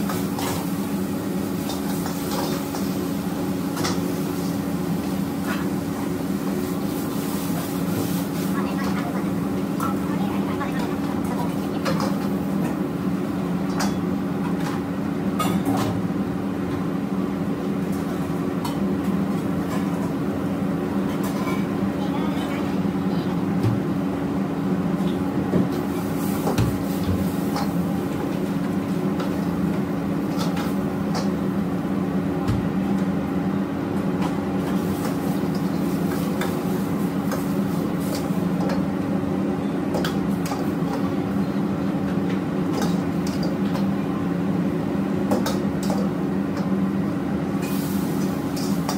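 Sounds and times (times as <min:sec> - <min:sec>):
gas burner and extraction hum: 0:00.0 - 0:48.9.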